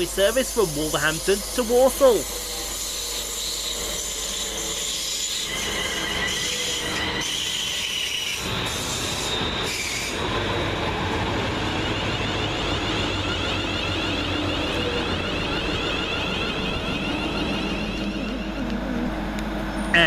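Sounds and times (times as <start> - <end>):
train brakes squealing: 0.0 - 19.0
train low hum: 0.0 - 20.0.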